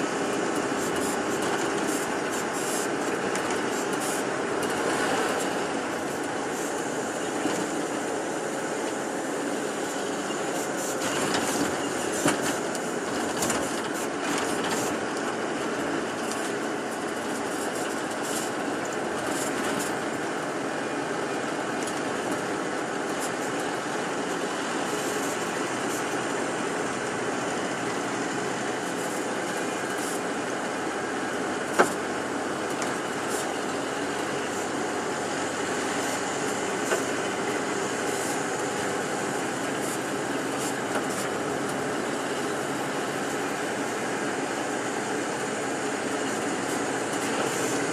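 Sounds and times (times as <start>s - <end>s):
bus engine and road noise: 0.0s - 47.9s.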